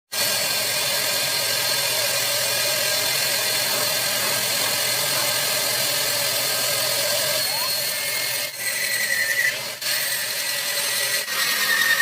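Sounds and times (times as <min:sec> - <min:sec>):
sawmill machinery whirring: 0:00.1 - 0:12.0.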